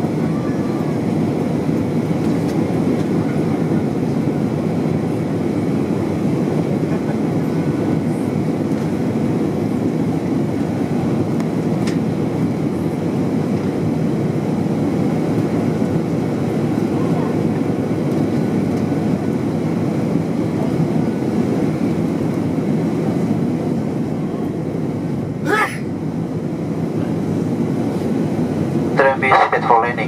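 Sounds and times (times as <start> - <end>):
airplane cabin engine roar: 0.0 - 30.0.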